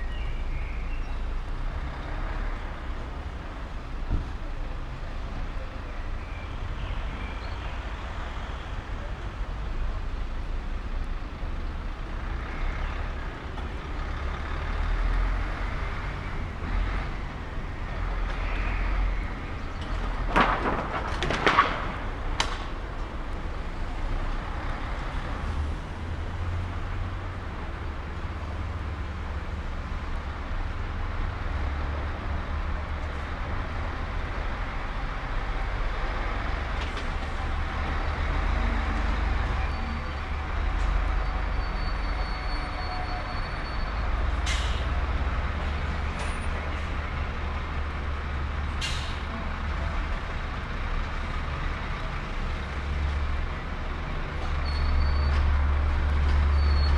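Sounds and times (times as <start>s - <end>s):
rumble of passing vehicles: 0.0s - 56.9s.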